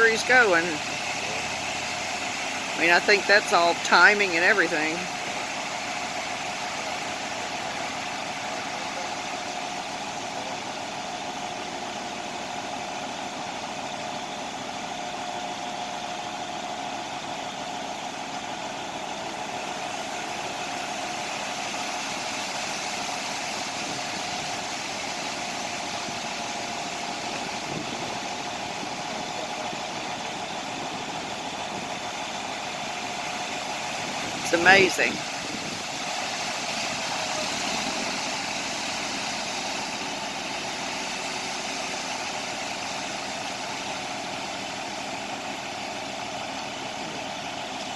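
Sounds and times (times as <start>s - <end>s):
constant whine: 0.0s - 16.0s, 17.2s - 47.9s
diesel truck engine running: 0.0s - 47.9s.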